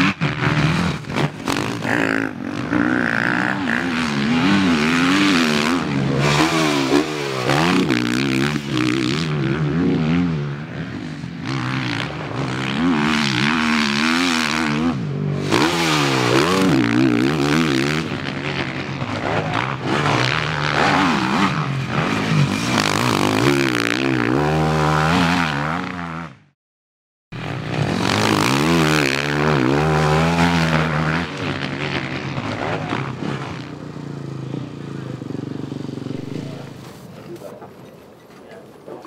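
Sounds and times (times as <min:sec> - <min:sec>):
dirt bike engine revving: 0:00.0 - 0:26.6, 0:27.4 - 0:37.2.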